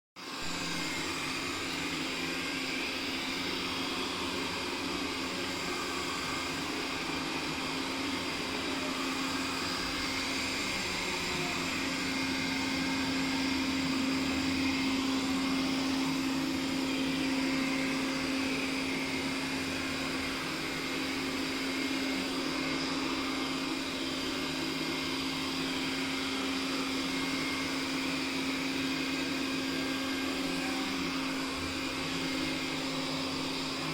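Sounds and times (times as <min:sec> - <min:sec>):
robot vacuum motor whirring: 0:00.3 - 0:33.9.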